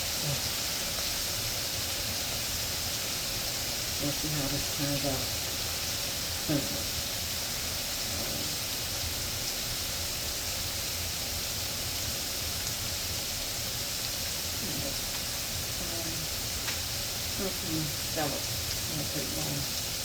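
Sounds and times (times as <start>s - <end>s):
shrimp sizzling in hot oil: 0.0s - 20.0s.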